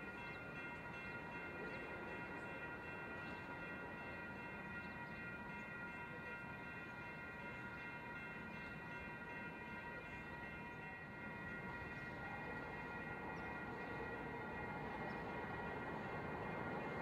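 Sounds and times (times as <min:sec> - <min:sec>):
crossing bells ringing: 0:00.0 - 0:17.0
train rumble: 0:00.0 - 0:17.0.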